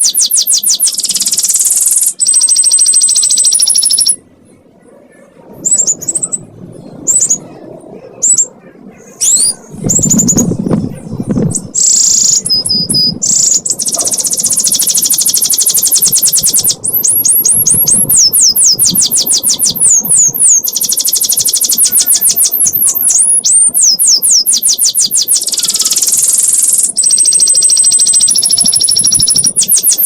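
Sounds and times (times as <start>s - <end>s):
canary singing: 0.0s - 4.2s, 5.6s - 7.6s, 9.2s - 30.0s.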